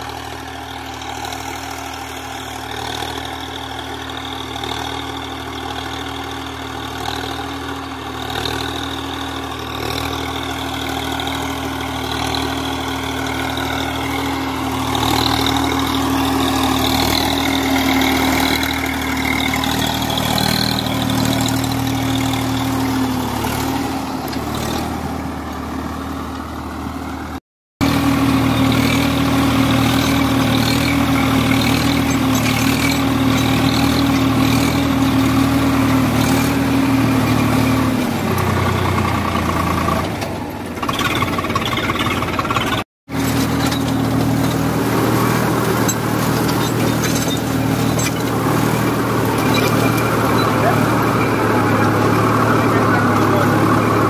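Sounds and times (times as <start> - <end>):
rotavator blades tilling soil: 0.0 - 54.0
tractor diesel engine running: 0.0 - 54.0.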